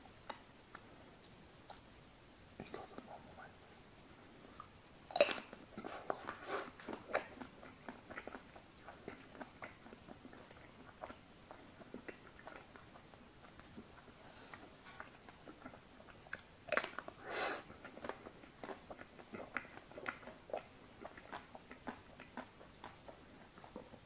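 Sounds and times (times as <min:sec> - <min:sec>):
chewing with crunches: 0:00.1 - 0:01.9, 0:04.2 - 0:24.0.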